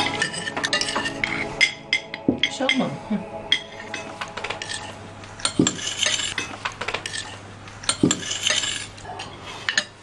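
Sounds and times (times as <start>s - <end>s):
cutlery clinking and scraping plates: 0.0s - 2.9s, 3.5s - 10.0s.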